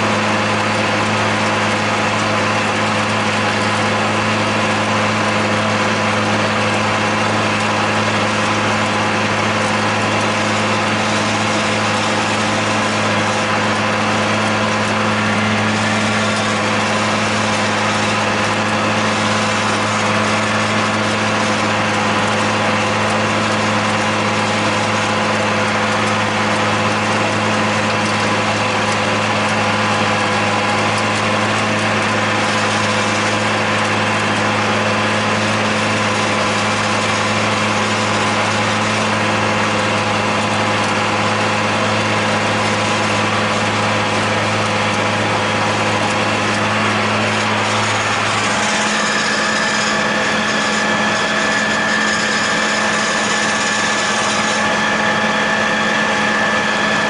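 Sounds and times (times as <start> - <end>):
high steady whine: 0.0 - 57.0
tractor diesel engine running: 0.0 - 57.0.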